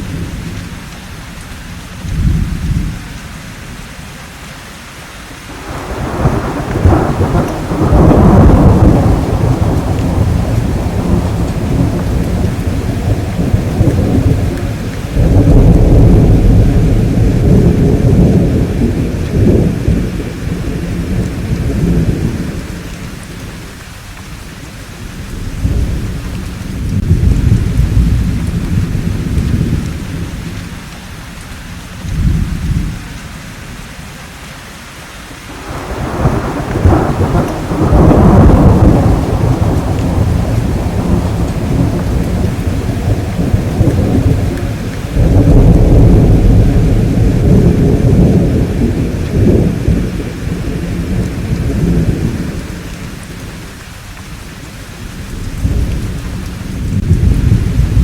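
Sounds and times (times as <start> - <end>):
steady rain: 0.0 - 58.0
rolling thunder: 2.0 - 3.1, 5.5 - 23.9, 24.9 - 30.9, 32.0 - 33.1, 35.5 - 53.8, 55.0 - 58.0.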